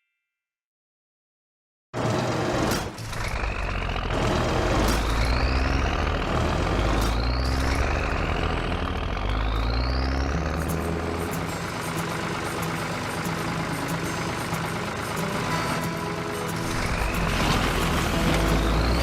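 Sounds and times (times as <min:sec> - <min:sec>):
heavy vehicle engine rumble: 0:02.0 - 0:19.0.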